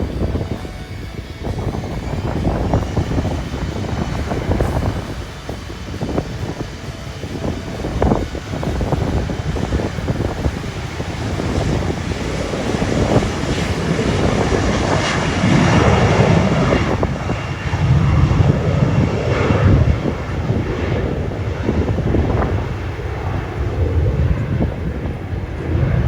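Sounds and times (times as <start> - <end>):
jet airliner engine noise: 0.0 - 26.0
wind buffeting microphone: 0.0 - 26.0.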